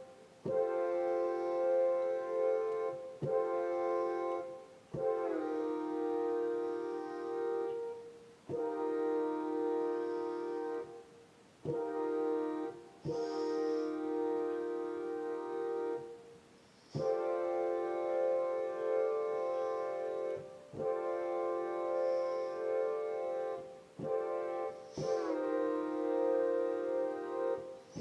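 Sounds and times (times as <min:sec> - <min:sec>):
train horn blasts: 0:00.0 - 0:16.2, 0:16.9 - 0:28.0.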